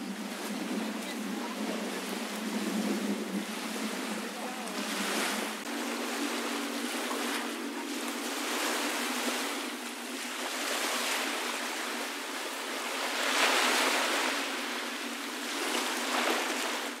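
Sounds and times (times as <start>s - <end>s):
surf lapping on sandy beach: 0.0s - 17.0s.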